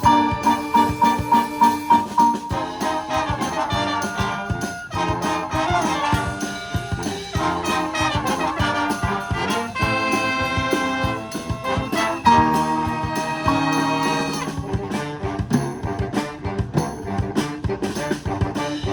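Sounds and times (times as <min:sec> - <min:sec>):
wind band playing: 0:00.0 - 0:18.9.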